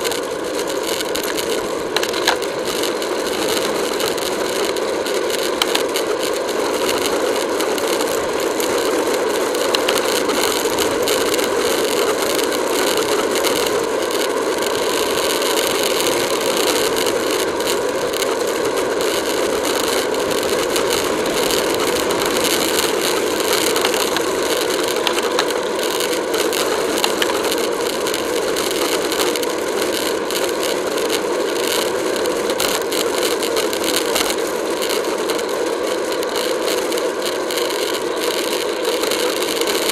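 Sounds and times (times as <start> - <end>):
fine rattle and ticking: 0.0 - 39.9
road noise: 0.0 - 39.9.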